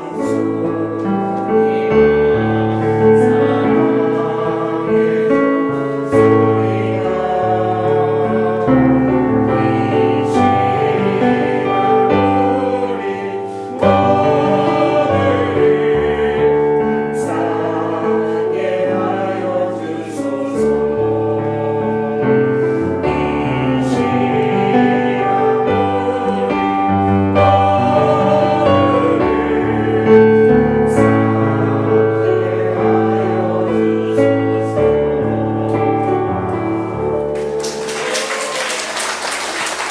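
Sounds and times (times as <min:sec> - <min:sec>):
group singing a hymn: 0:00.0 - 0:39.9
piano accompaniment: 0:00.0 - 0:39.9.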